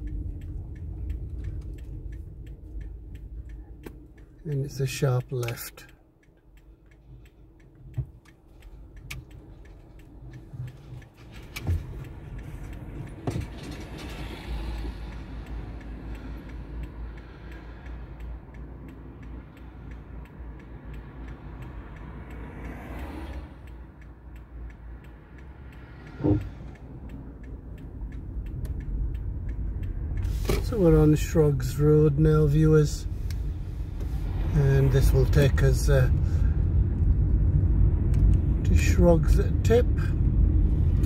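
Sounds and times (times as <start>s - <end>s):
car engine and tyre rumble: 0.0s - 41.0s.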